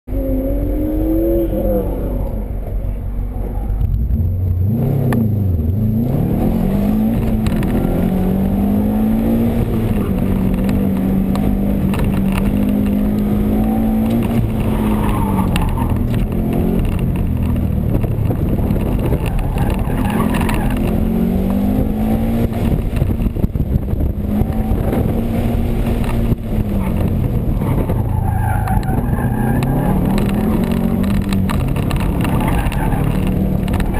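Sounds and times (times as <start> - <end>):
car engine revving: 0.1 - 33.9.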